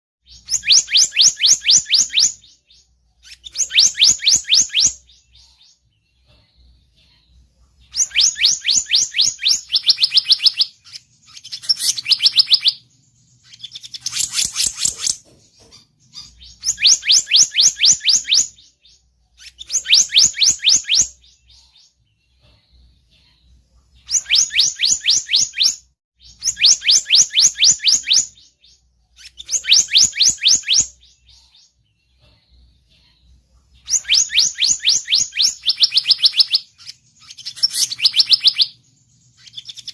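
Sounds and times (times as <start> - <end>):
bird trilling high chirps: 0.2 - 33.2, 33.8 - 39.9.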